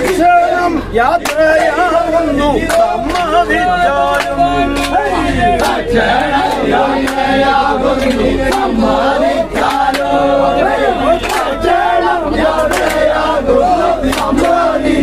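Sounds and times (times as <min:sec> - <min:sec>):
men singing in chorus: 0:00.0 - 0:15.0
sharp rhythmic beats: 0:00.0 - 0:15.0.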